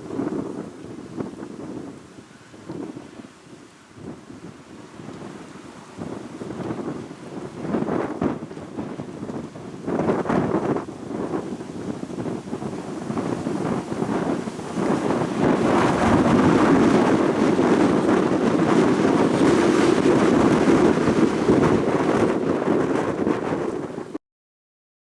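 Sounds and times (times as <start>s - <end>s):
strong wind buffeting microphone: 0.0s - 24.2s.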